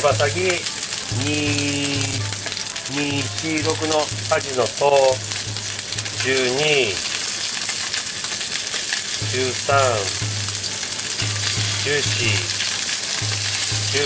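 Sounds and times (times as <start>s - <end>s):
chicken wings sizzling in a pan: 0.0s - 14.0s.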